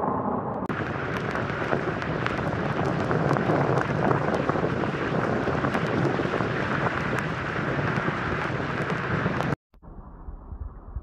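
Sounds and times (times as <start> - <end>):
heavy rain: 0.7 - 9.6
raindrops ticking: 0.7 - 9.6.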